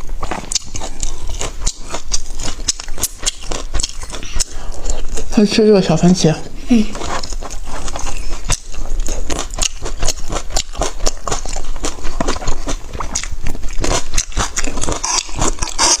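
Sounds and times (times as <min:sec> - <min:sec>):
person chewing and smacking food: 0:00.0 - 0:05.5, 0:06.9 - 0:16.0.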